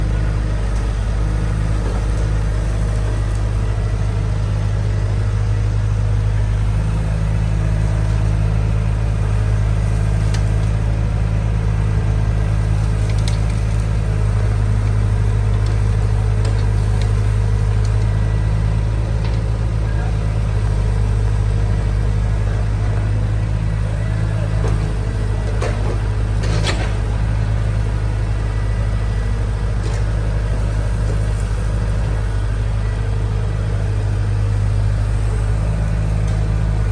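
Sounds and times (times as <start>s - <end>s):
heavy machinery engine running: 0.0s - 36.9s.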